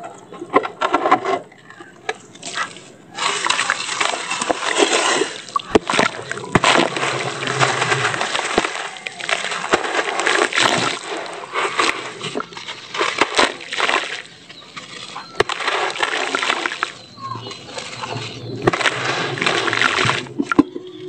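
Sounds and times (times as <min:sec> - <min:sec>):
wet cement block crumbling: 0:00.5 - 0:21.0
sand splashing into water: 0:02.5 - 0:21.0.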